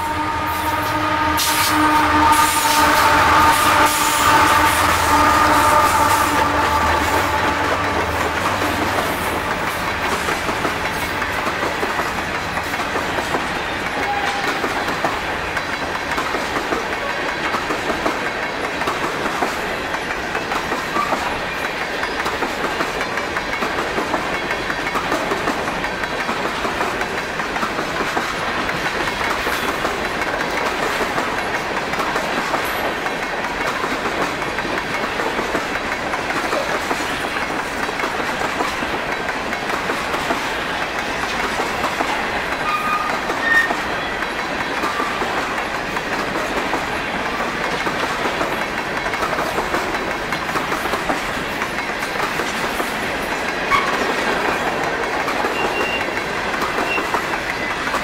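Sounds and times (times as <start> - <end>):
diesel locomotive engines droning: 0.0 - 58.0.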